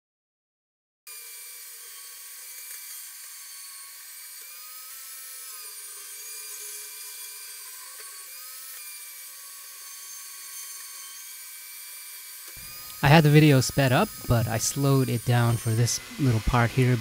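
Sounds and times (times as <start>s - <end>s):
bandsaw cutting metal: 1.1s - 17.0s.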